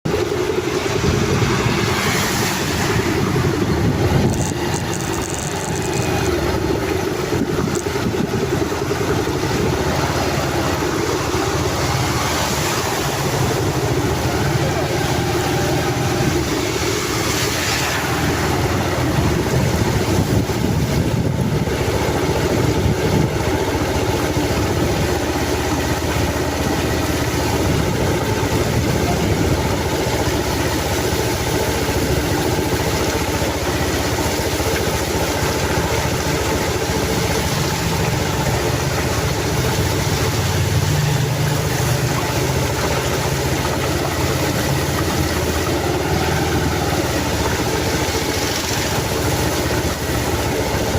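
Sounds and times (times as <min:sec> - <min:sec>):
constant rushing noise: 0:00.1 - 0:50.9
vehicle engine running: 0:00.1 - 0:50.9.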